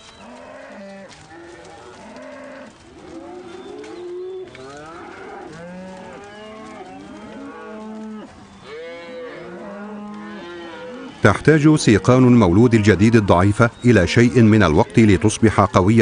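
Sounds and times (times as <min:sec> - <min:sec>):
buffalo herd mooing: 0:00.1 - 0:16.0.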